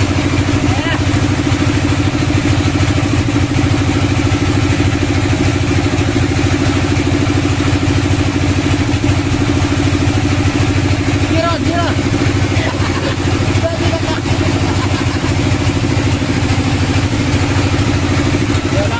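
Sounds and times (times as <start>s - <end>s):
sawmill engine idling: 0.0s - 18.9s.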